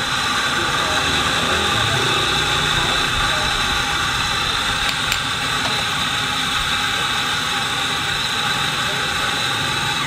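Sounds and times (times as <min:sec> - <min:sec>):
coffee machine hiss and whir: 0:00.0 - 0:10.0.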